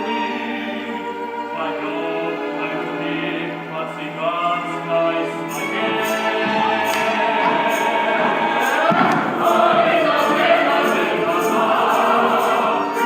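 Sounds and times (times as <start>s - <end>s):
choir singing: 0.0s - 13.0s
instrumental accompaniment: 0.0s - 13.0s.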